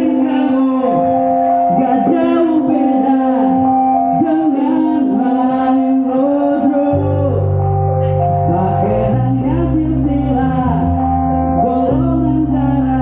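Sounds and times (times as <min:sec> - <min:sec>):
deep bass notes: 0:00.0 - 0:13.0
man singing: 0:00.0 - 0:13.0.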